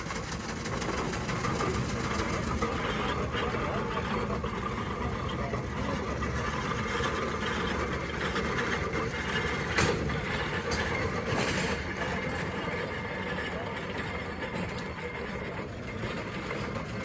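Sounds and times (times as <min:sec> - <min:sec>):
steam traction engine running: 0:00.0 - 0:17.0.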